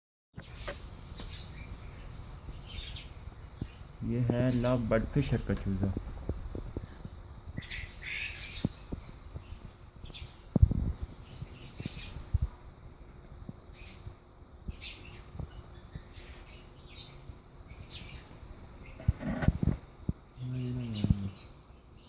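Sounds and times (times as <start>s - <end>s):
birds chirping: 0.4s - 22.0s.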